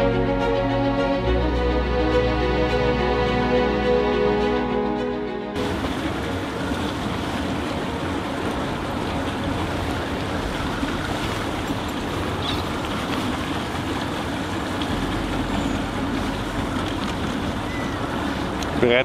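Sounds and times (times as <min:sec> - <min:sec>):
motorboat engine drone: 0:00.0 - 0:19.0
rushing water: 0:00.0 - 0:19.0.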